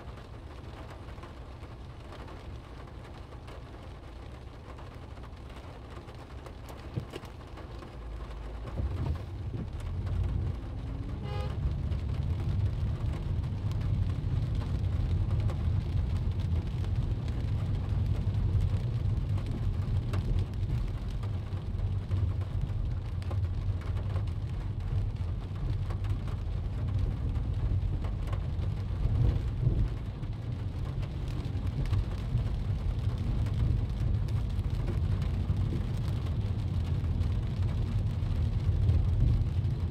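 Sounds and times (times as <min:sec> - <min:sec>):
rain pattering on a car: 0:00.0 - 0:39.9
tyre and road rumble: 0:06.2 - 0:39.9.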